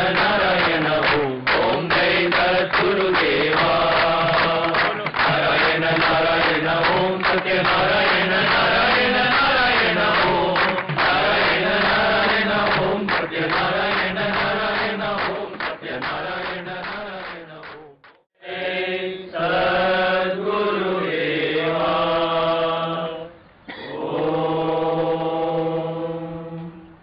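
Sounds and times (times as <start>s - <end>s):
voices chanting a mantra: 0.0s - 27.0s.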